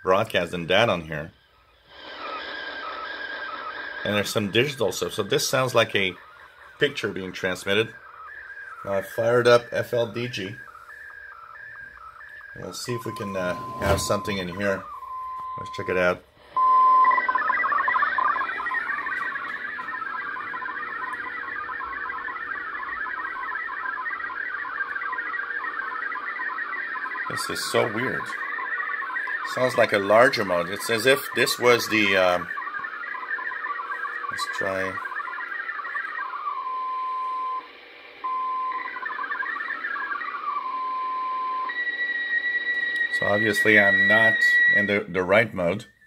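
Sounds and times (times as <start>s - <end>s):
radio data signal warble: 0.0s - 46.0s.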